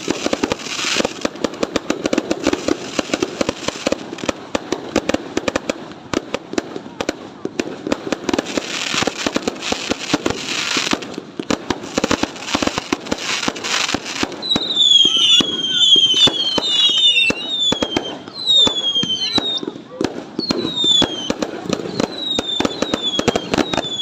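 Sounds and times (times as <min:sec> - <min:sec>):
fireworks bangs and crackles: 0:00.0 - 0:24.0
fireworks hissing: 0:00.0 - 0:24.0.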